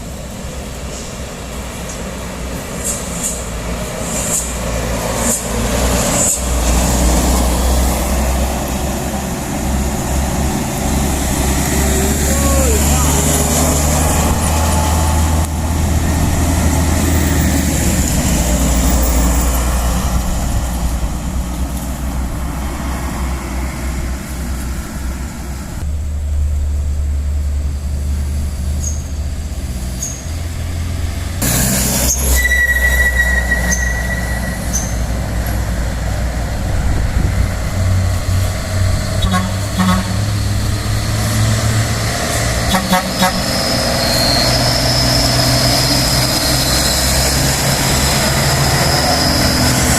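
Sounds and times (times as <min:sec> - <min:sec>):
truck engine droning: 0:00.0 - 0:49.9.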